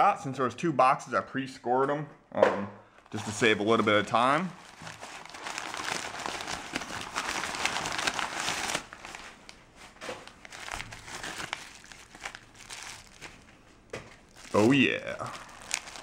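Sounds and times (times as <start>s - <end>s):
paper crinkling: 3.0s - 16.0s.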